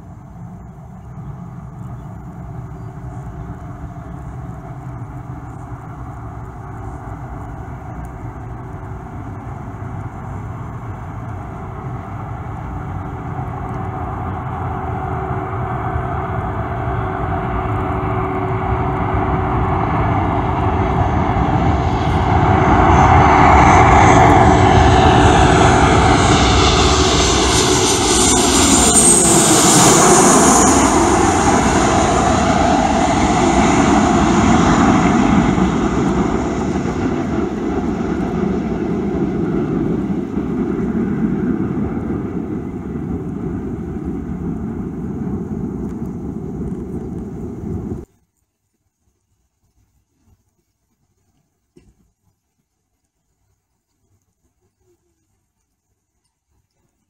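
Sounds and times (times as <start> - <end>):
jet engines passing close: 0.0 - 48.1.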